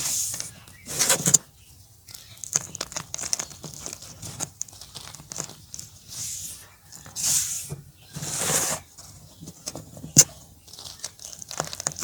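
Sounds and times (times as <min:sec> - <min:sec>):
chalk crumbling between fingers: 0:00.0 - 0:01.4, 0:02.1 - 0:12.0.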